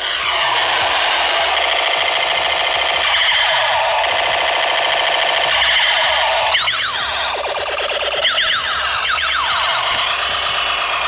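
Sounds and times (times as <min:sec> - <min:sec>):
toy gun electronic firing sounds: 0:00.0 - 0:11.0.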